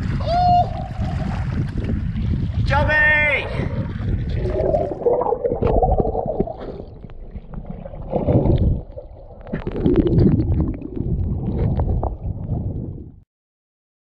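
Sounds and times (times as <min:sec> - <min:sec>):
underwater rumbling and gurgling: 0:00.0 - 0:02.8, 0:03.4 - 0:13.2.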